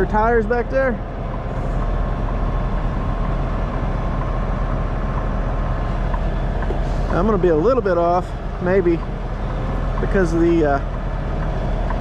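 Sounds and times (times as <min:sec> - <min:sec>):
diesel engine running at low revs: 0:00.0 - 0:12.0.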